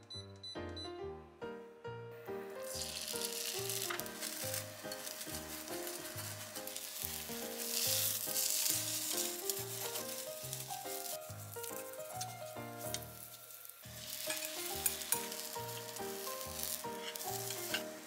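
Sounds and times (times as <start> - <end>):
background music: 0.0 - 18.0
egg sizzling in a pan: 2.4 - 18.0
chopsticks working egg: 2.6 - 18.0.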